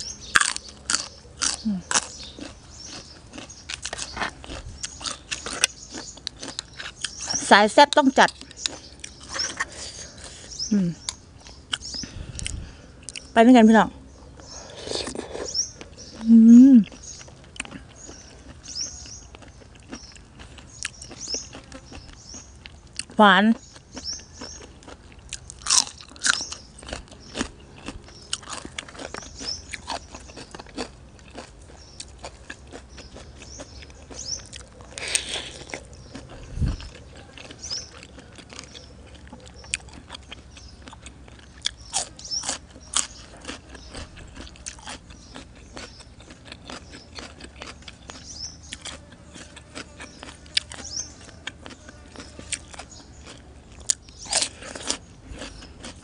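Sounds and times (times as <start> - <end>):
crunching raw vegetables: 0.0 - 13.4, 14.2 - 56.0.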